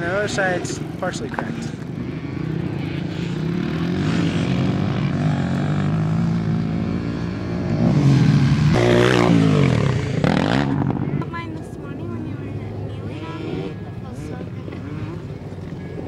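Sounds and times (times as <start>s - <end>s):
dirt bike engine revving: 0.0s - 11.4s, 12.7s - 16.0s.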